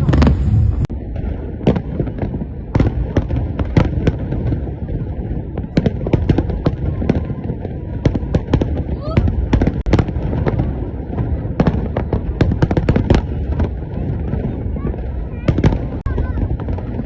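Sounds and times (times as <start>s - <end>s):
distant fireworks rumble: 0.0s - 17.0s
fireworks bangs: 0.0s - 17.0s.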